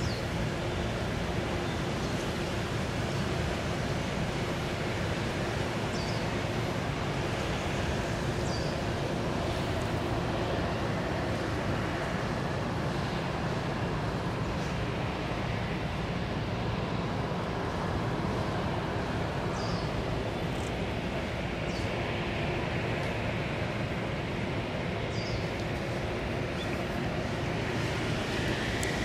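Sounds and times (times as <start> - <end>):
outdoor background rumble: 0.0 - 29.0.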